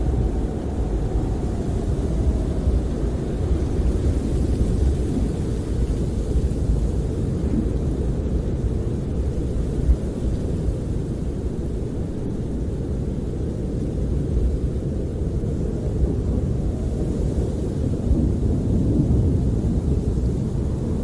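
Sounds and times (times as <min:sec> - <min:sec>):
wind buffeting a camper: 0:00.0 - 0:21.0.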